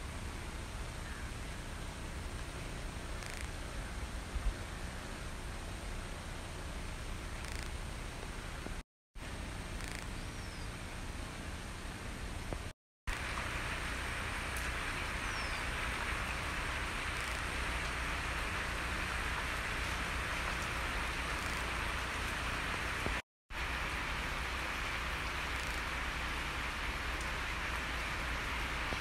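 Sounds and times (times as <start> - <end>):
rain falling on foliage: 0.0 - 29.0.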